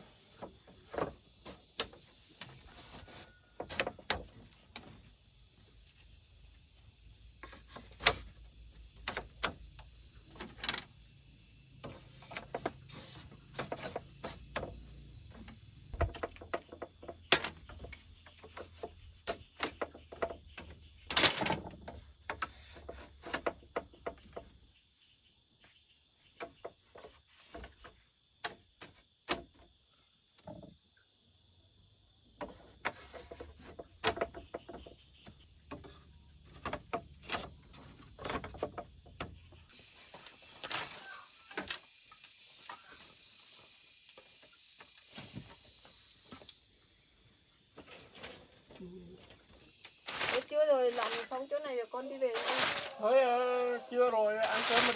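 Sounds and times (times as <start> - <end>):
high insect chirring: 4.9 - 29.2, 33.3 - 47.8, 49.4 - 54.9.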